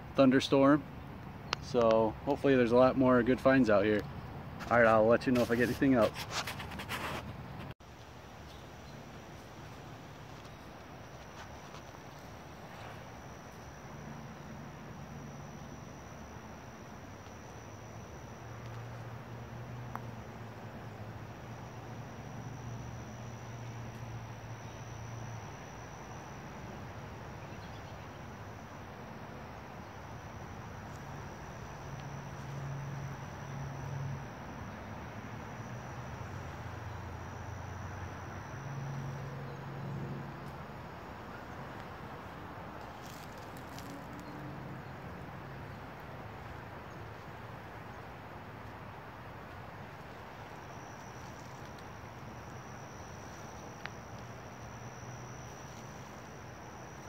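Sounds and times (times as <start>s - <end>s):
low hum: 6.0s - 57.0s
high-pitched insect drone: 8.8s - 57.0s.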